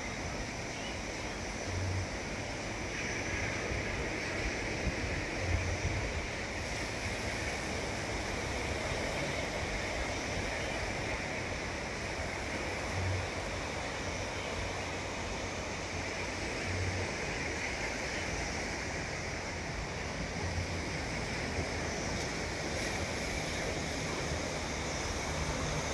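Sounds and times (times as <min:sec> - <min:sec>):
sea surf breaking on shore: 0:00.0 - 0:25.9.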